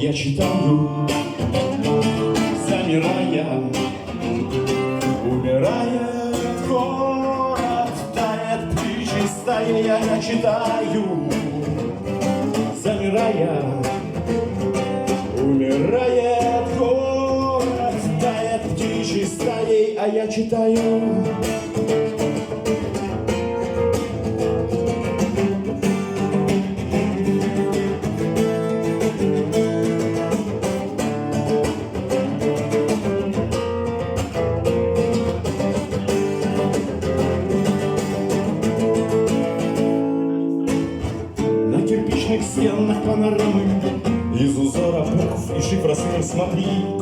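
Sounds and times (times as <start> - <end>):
acoustic guitar strumming: 0.0 - 47.0.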